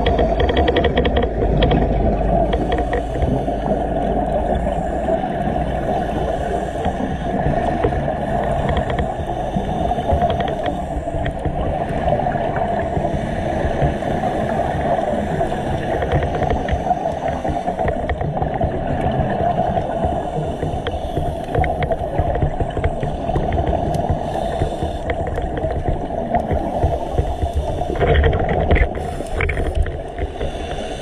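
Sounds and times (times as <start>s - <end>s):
faint scattered clicks: 0.0s - 31.0s
underwater rush of water: 0.0s - 31.0s.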